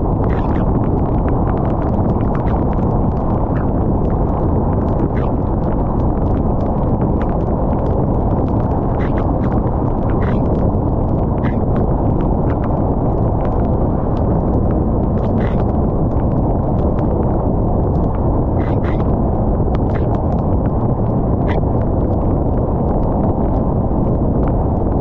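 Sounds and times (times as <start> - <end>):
rain rushing: 0.0 - 22.5.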